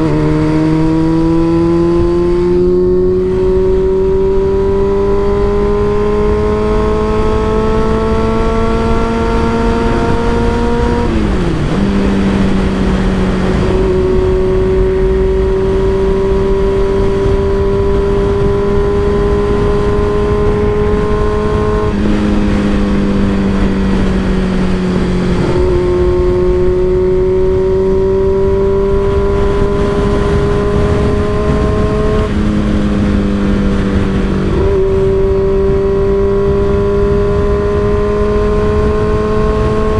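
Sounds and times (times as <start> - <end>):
motorcycle exhaust revving: 0.0 - 39.9
wind noise: 0.0 - 39.9.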